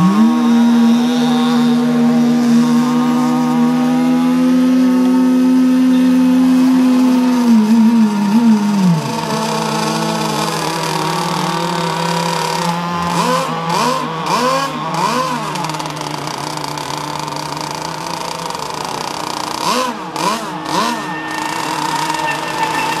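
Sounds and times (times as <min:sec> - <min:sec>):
electric boat motors whining: 0:00.0 - 0:23.0.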